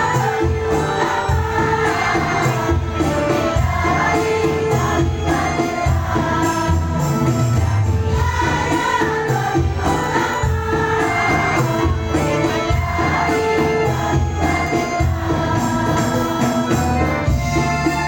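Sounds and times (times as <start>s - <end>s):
choir singing devotional song: 0.0s - 18.0s
low percussive beat: 0.0s - 18.0s.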